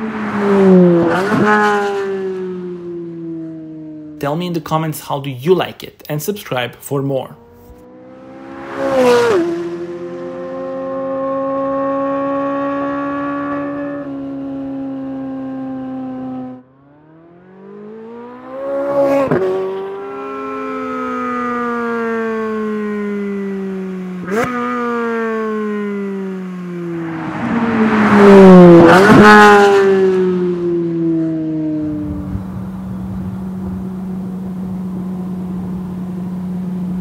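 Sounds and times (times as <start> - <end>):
sports car engine revving: 0.0 - 4.2, 7.3 - 37.0.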